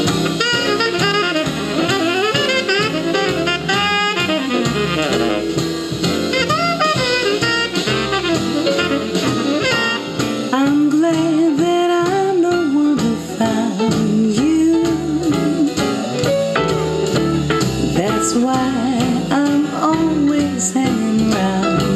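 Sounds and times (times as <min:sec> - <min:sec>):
jazz swing music over loudspeaker: 0:00.0 - 0:21.9.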